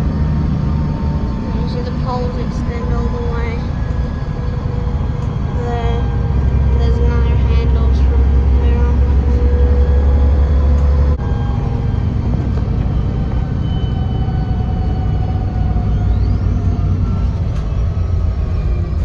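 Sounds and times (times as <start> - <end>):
bus engine and road rumble: 0.0 - 19.0
faint whining tones: 0.0 - 19.0.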